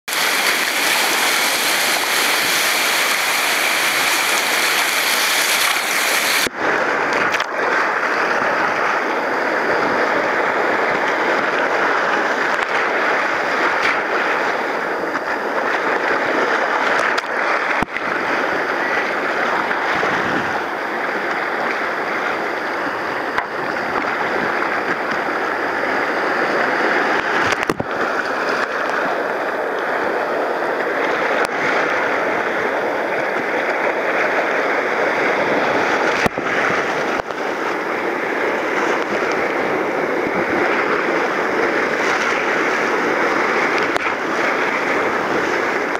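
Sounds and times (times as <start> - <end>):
whitewater rushing: 0.0 - 45.9.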